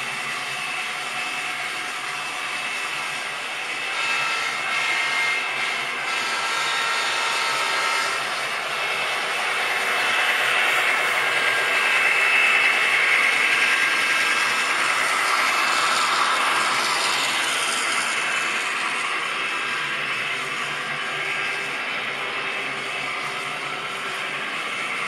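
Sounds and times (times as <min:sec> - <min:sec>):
model train motors whirring: 0:00.0 - 0:25.0.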